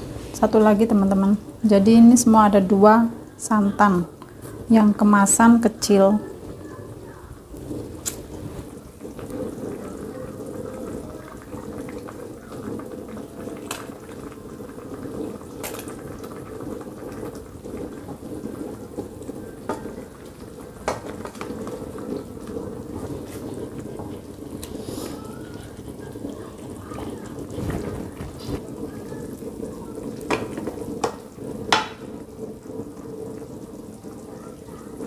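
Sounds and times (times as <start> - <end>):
sauce bubbling in wok: 0.0 - 35.0.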